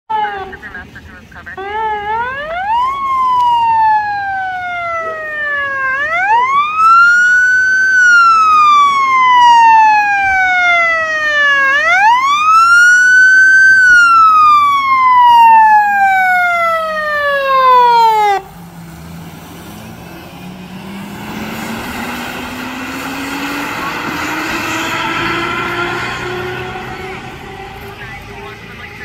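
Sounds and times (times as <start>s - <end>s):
ambulance siren wailing: 0.1s - 18.8s, 20.5s - 29.0s.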